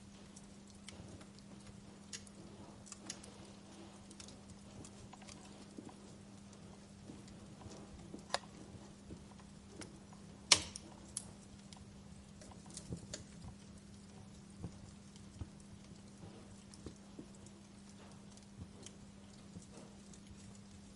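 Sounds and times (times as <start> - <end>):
faint steady hum: 0.0 - 20.9
fire crackling and popping: 0.0 - 20.9.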